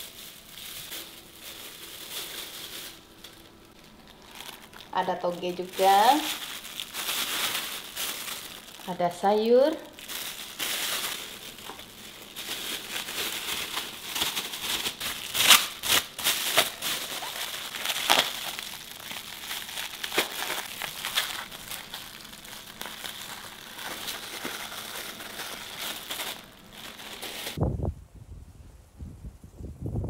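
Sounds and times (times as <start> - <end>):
plastic bags crinkling: 0.0 - 27.6.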